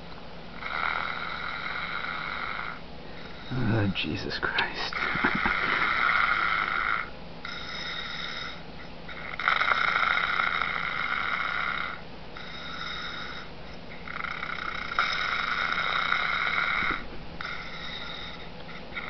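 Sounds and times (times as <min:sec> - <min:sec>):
man snoring: 0:00.6 - 0:03.8, 0:04.7 - 0:08.6, 0:09.2 - 0:18.4.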